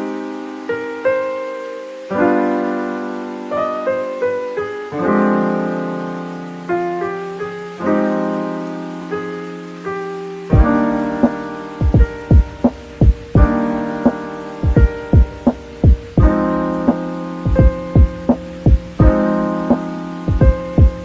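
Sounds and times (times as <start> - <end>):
slow piano piece: 0.0 - 21.0.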